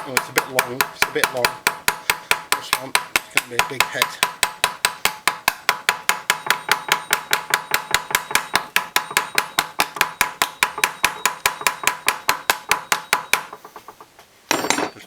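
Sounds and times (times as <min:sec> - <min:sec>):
hammer tapping on metal: 0:00.0 - 0:15.0.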